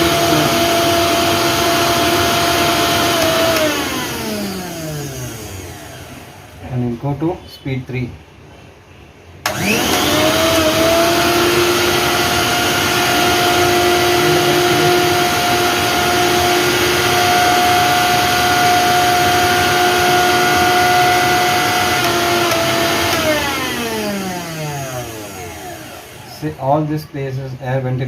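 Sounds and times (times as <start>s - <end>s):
mixer grinder motor whining: 0.0s - 6.6s, 9.4s - 26.6s.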